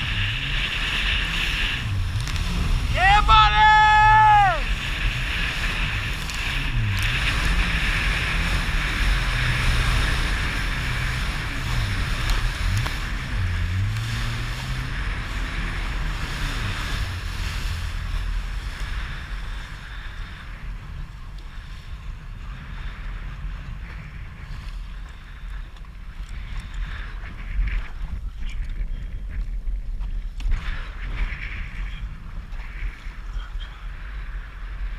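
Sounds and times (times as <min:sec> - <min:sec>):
jet ski engine running: 0:00.0 - 0:34.9
wind on microphone: 0:00.0 - 0:34.9.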